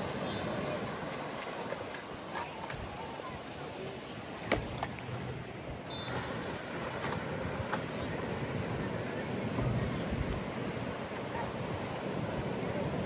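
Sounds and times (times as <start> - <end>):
ocean surf: 0.0 - 13.0
wind: 0.0 - 13.0.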